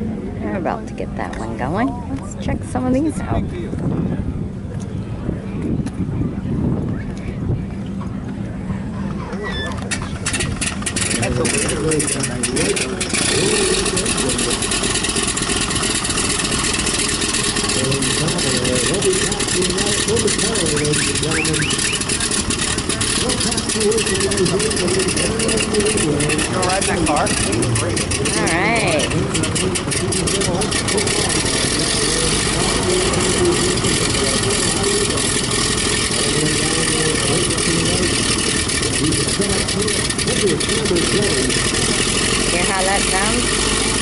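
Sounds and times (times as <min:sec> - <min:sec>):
aircraft piston engine running: 0:07.1 - 0:44.0.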